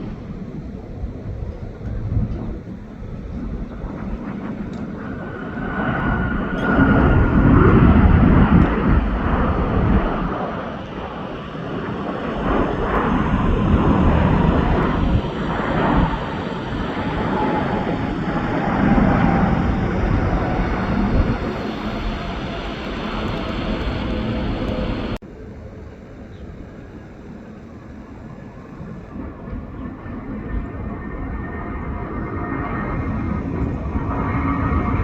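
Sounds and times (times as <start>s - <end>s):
faint jet engine whine: 0.0s - 35.0s
jet engines roaring: 0.0s - 35.0s.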